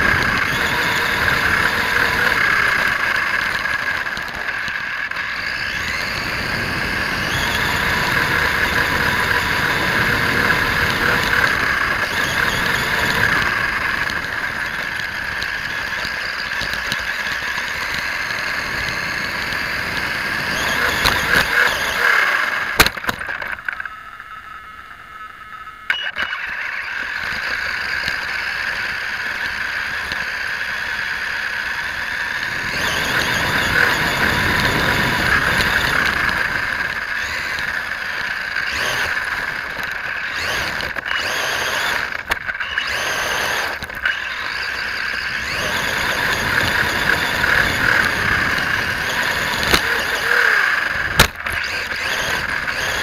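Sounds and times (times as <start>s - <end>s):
electric drivetrain whining: 0.0s - 53.0s.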